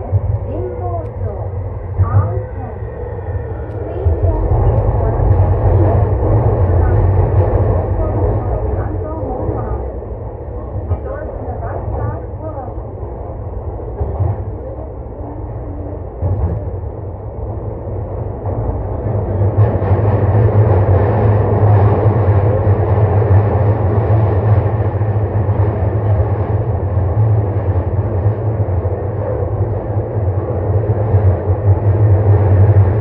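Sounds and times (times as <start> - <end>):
train rumbling in tunnel: 0.0 - 33.0.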